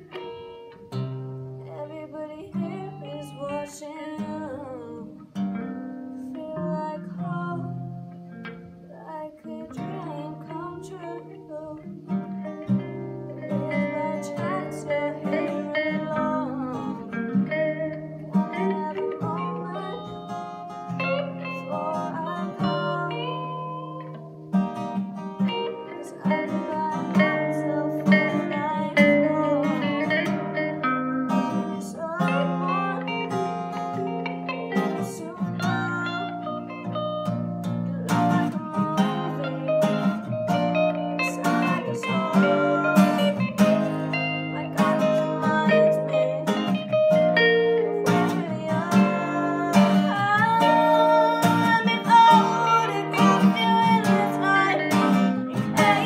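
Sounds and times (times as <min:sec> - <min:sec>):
acoustic guitar strumming: 0:00.0 - 0:56.0
electric guitar lead melody: 0:00.0 - 0:56.0.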